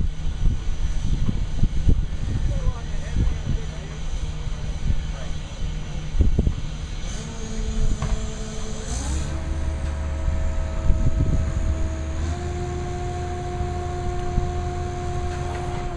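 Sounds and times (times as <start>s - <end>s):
crane engine rumbling with whine: 0.0s - 15.9s.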